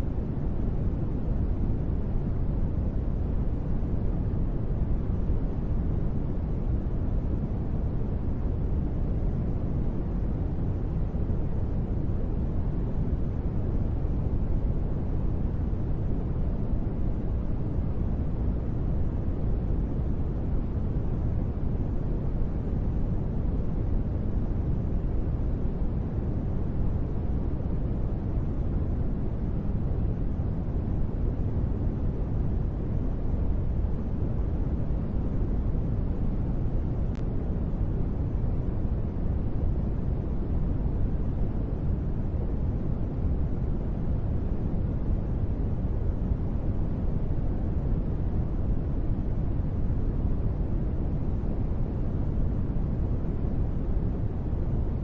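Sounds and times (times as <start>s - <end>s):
muffled white noise: 0.0s - 55.0s.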